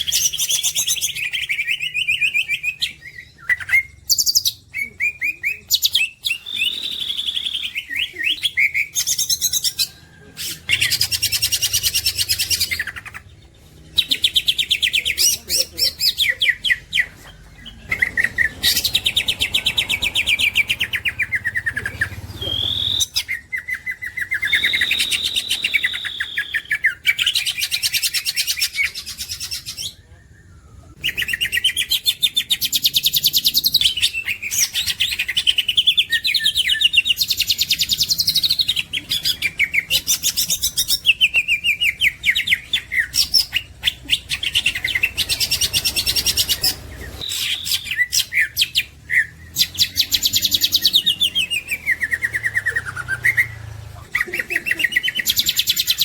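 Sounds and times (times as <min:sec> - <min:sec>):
bird singing trills and whistles: 0:00.0 - 0:56.0.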